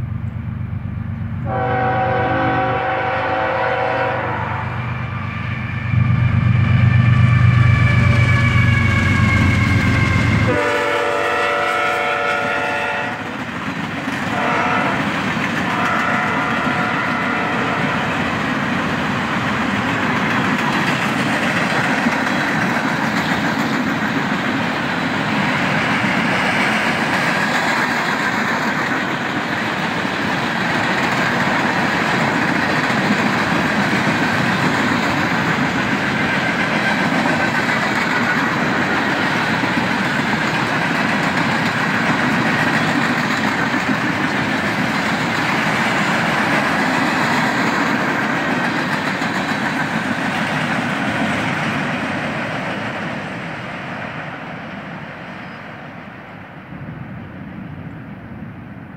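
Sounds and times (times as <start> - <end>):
train wheels rolling on rail: 0.0 - 58.9.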